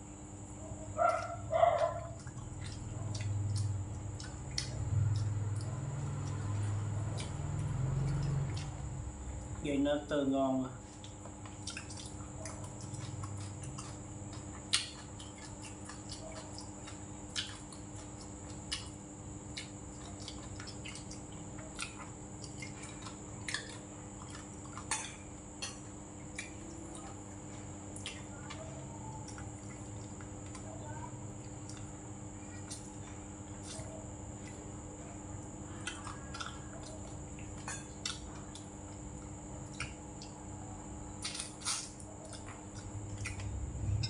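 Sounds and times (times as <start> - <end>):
faint hum: 0.0 - 44.0
chewing: 0.6 - 9.6, 10.8 - 44.0.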